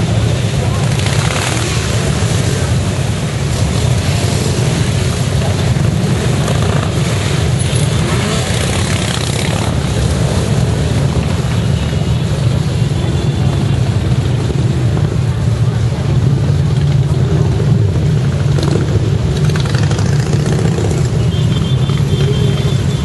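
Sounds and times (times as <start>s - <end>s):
motorcycle engines rumbling: 0.0s - 23.0s.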